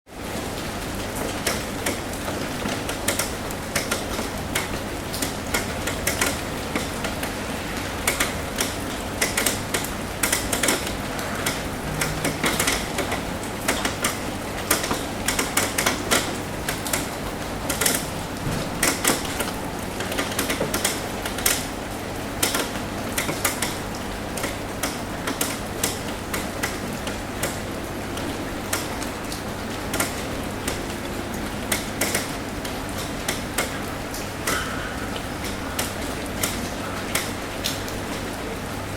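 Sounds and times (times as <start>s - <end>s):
rain tapping on a roof: 0.1s - 38.9s.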